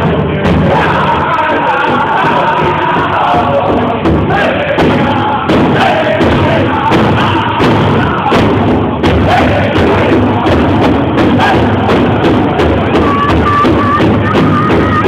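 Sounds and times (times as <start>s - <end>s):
big drum steady beat: 0.0s - 15.0s
group singing together: 0.0s - 15.0s.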